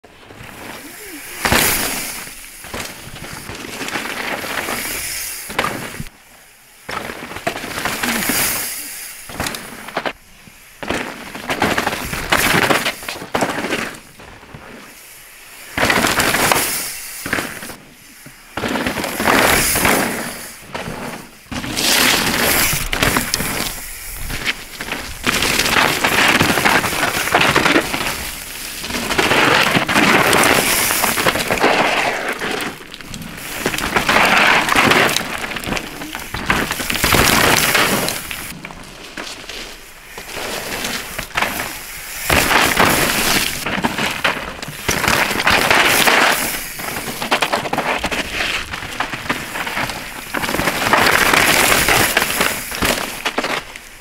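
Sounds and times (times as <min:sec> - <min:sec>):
bike tyres skidding through dirt: 0:00.0 - 0:54.0.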